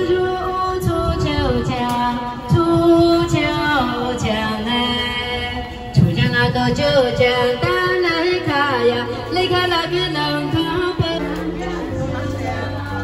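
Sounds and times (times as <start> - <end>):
women singing folk song together: 0.0 - 13.0.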